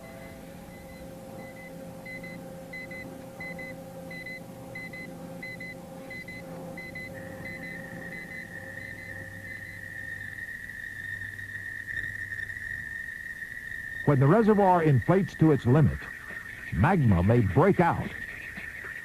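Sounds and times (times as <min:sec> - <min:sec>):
steady electronic tone: 0:00.0 - 0:19.0
steady hum: 0:00.0 - 0:19.0.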